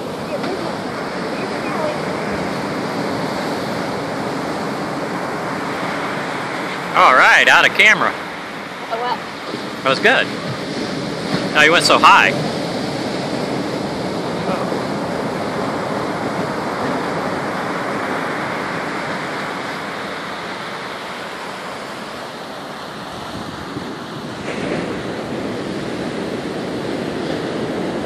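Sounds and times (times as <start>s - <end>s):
ocean waves breaking on beach: 0.0s - 28.0s.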